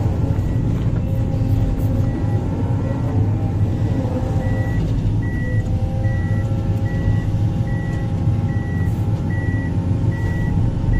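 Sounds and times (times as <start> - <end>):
heavy diesel machinery rumbling: 0.0 - 10.9.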